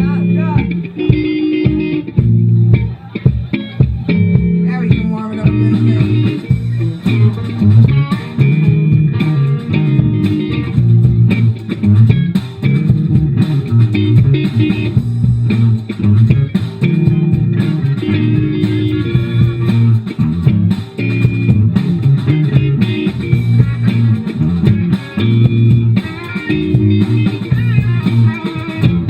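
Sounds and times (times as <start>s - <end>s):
bass guitar: 0.0s - 29.0s
guitar playing bluesy riff: 0.0s - 29.0s.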